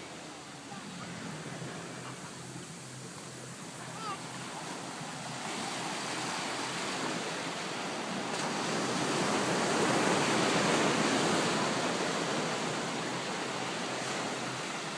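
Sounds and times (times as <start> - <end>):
ocean wave breaking on beach: 0.0 - 14.9.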